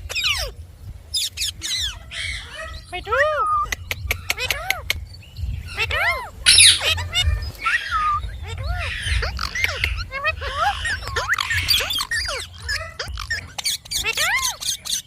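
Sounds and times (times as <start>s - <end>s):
parrot chattering: 0.0s - 0.6s, 1.2s - 15.0s.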